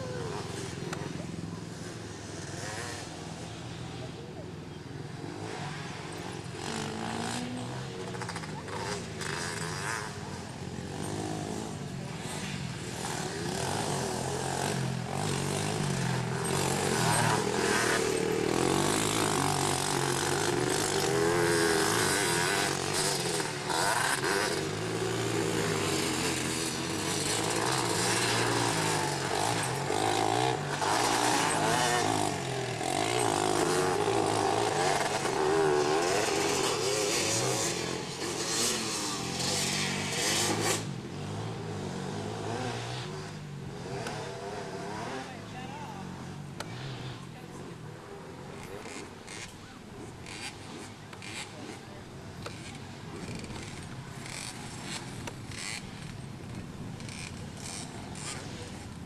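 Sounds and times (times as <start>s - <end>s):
quad bike engines revving: 0.0s - 59.0s.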